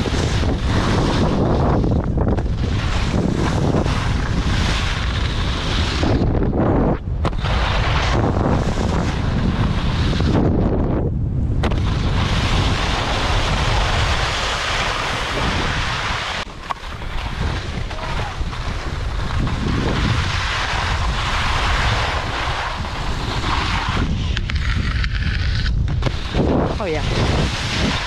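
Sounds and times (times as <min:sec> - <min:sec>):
skis scraping over snow: 0:00.0 - 0:10.7, 0:11.7 - 0:28.0
wind buffeting microphone: 0:00.0 - 0:28.0.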